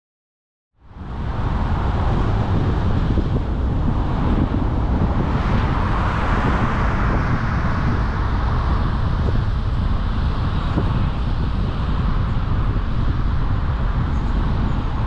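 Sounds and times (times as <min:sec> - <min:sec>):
car driving with road rumble: 0:00.8 - 0:15.0.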